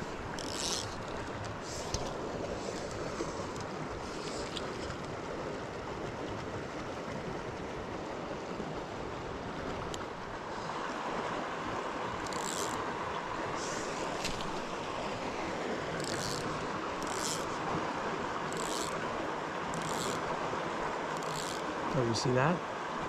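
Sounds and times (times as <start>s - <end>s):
river rushing: 0.0s - 6.9s, 7.7s - 23.0s.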